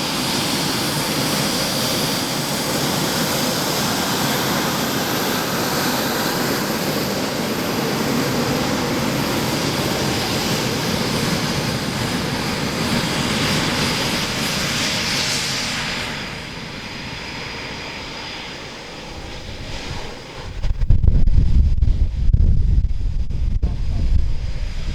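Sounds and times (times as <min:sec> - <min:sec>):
jet engines roaring: 0:00.0 - 0:21.2, 0:21.8 - 0:24.9
wind rumbling on microphone: 0:00.3 - 0:24.9.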